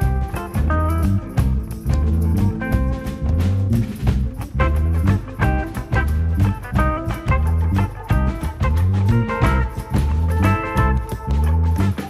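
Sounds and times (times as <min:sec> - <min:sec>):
swing music with bass and guitar: 0:00.0 - 0:12.0.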